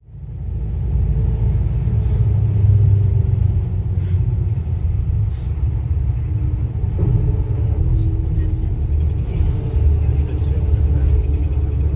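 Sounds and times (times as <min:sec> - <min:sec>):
vehicle engine and road noise: 0:00.0 - 0:11.9.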